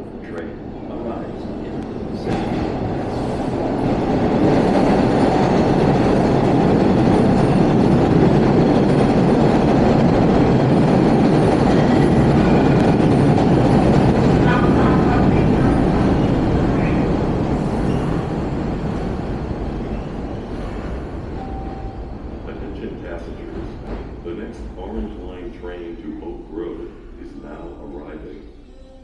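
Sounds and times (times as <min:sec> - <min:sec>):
subway train wheels rumbling on rails: 0:00.0 - 0:28.5.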